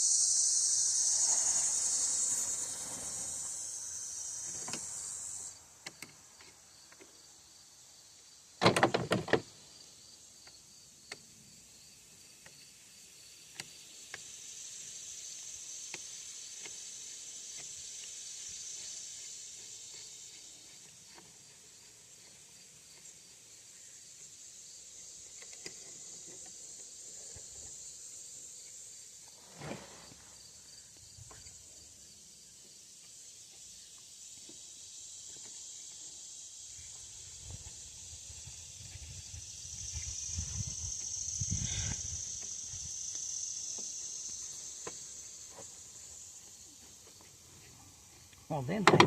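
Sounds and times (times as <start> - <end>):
steady high hiss: 0.0 - 49.0.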